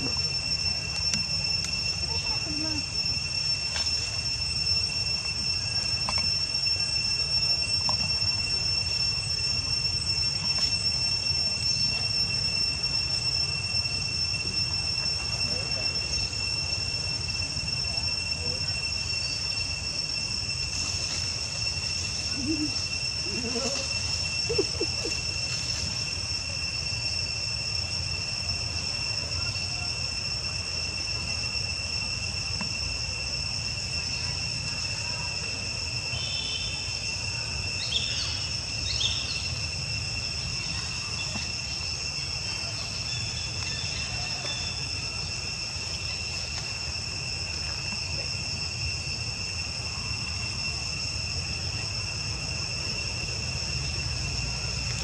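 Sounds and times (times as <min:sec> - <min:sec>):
faint chirps: 0:00.0 - 0:48.3
insects droning: 0:00.0 - 0:55.0.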